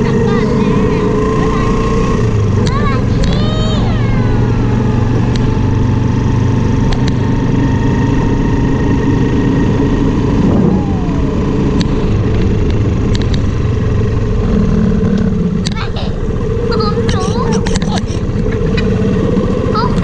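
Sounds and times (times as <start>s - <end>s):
motorbike engine running: 0.0s - 20.0s
wind rumbling on microphone: 0.0s - 20.0s.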